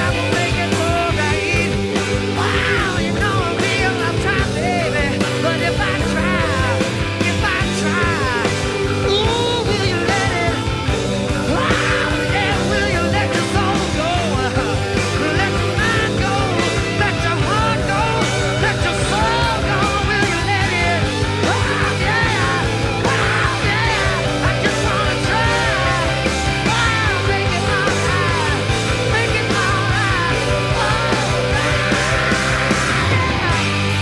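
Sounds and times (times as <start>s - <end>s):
rock band with singing: 0.0s - 34.0s.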